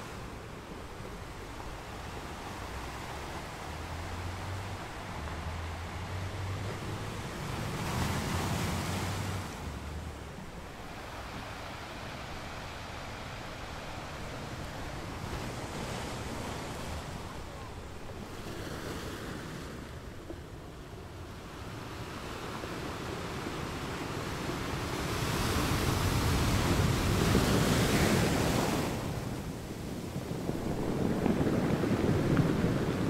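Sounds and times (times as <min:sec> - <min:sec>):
ocean waves washing in: 0:00.0 - 0:33.0.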